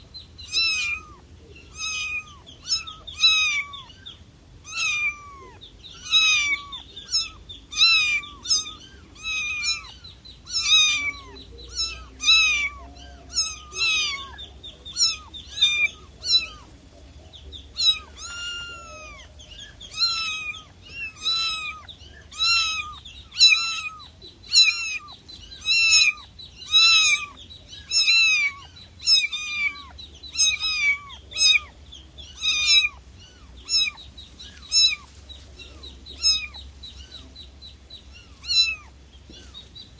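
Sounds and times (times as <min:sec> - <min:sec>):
cat meowing: 0:00.4 - 0:04.0, 0:04.6 - 0:16.7, 0:17.8 - 0:31.7, 0:32.3 - 0:35.1, 0:35.7 - 0:37.2, 0:38.1 - 0:39.6.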